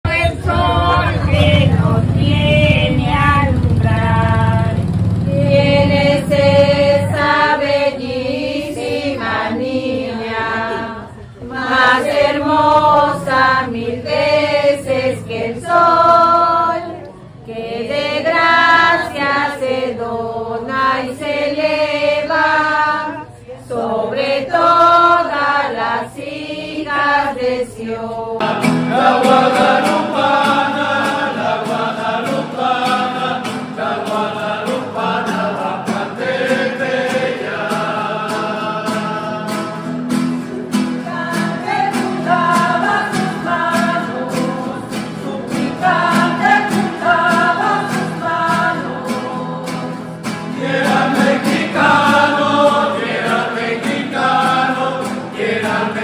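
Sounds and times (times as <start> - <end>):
women singing a hymn: 0.0 - 56.0.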